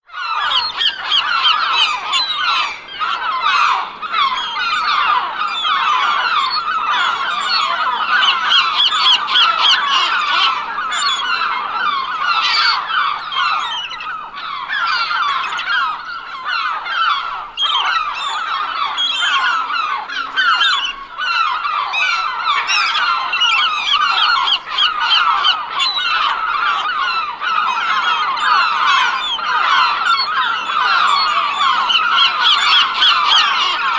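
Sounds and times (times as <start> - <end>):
seagulls calling: 0.1 - 33.9.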